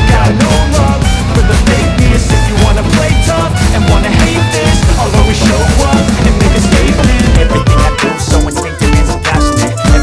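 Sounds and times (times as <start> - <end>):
background music with drums: 0.0 - 10.0.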